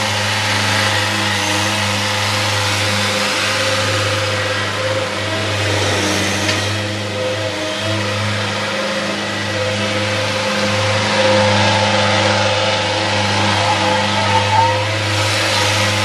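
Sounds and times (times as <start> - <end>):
mower diesel engine at full throttle: 0.0 - 16.0.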